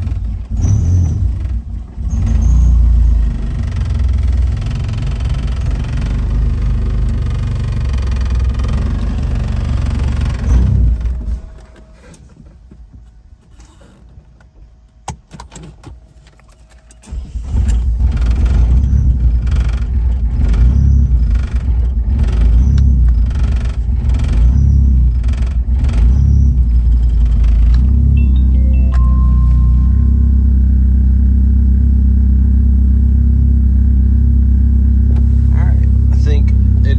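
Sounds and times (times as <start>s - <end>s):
car engine idling: 0.0s - 12.6s, 17.0s - 36.9s.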